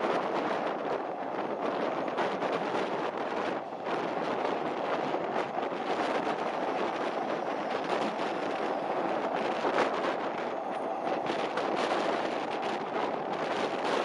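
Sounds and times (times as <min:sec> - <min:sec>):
train rushing along track: 0:00.0 - 0:14.0
wheels clicking on rails: 0:00.0 - 0:14.0.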